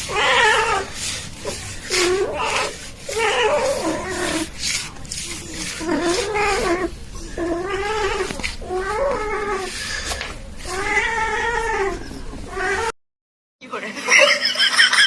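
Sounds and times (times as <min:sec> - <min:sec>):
cat yowling: 0:00.0 - 0:12.9.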